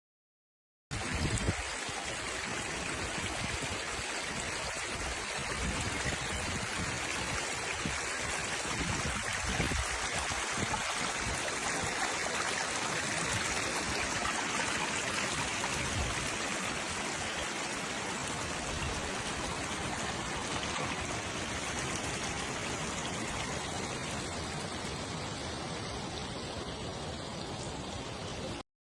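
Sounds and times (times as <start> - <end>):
flowing water rushing: 0.9 - 28.6.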